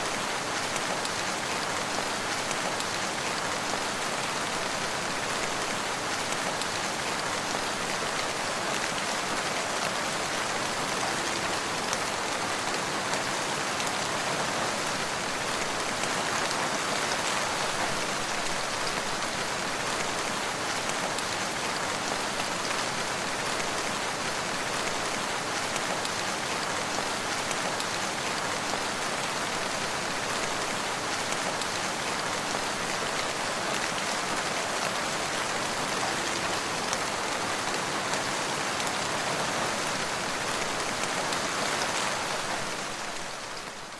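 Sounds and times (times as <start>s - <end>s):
rain pattering on surfaces: 0.0s - 43.9s.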